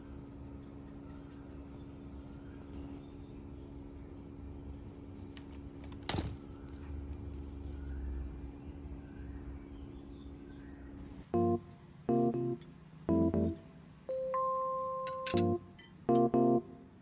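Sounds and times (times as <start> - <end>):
steady low hum: 0.0 - 14.4, 15.1 - 17.0.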